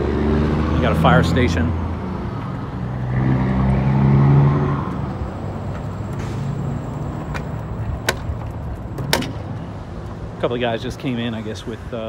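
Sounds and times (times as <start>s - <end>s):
road noise rumble: 0.0s - 12.0s.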